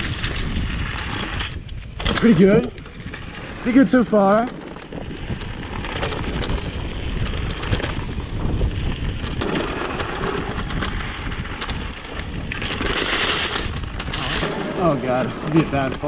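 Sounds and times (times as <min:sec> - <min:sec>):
bike rattling clicks: 0:00.0 - 0:16.0
bike tyres on dirt trail: 0:00.0 - 0:16.0
wind rumbling on microphone: 0:00.0 - 0:16.0.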